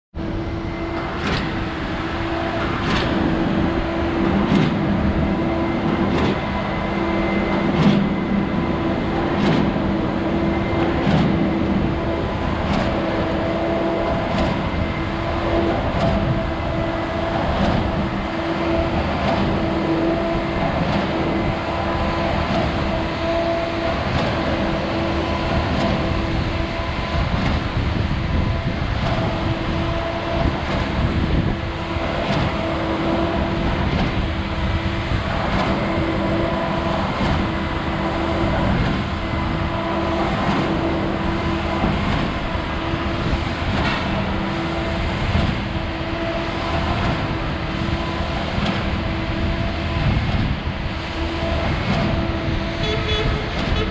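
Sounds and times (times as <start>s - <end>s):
vehicle engine hum: 0.1s - 53.9s.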